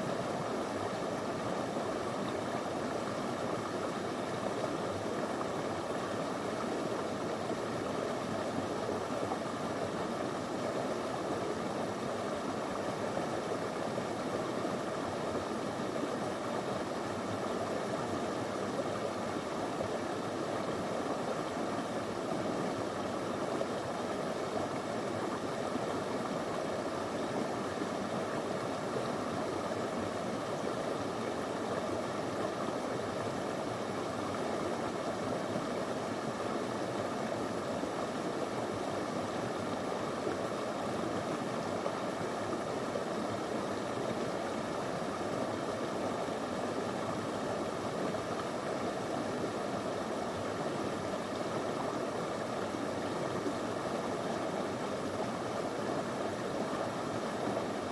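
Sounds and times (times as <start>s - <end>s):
river flowing over stones: 0.0s - 57.9s.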